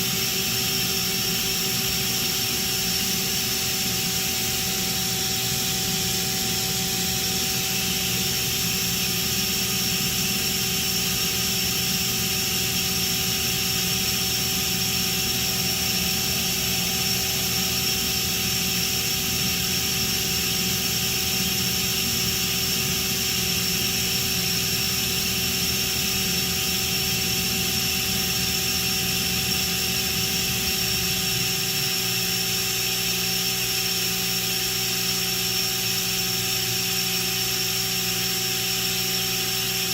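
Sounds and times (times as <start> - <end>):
machine hum with held tones: 0.0 - 39.9.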